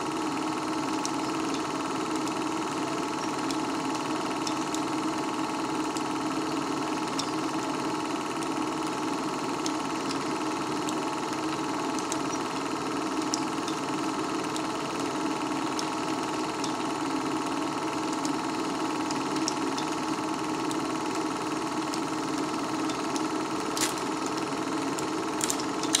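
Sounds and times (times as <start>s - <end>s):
film projector motor whir: 0.0s - 26.0s
projector clicks: 3.1s - 7.6s, 8.4s - 26.0s.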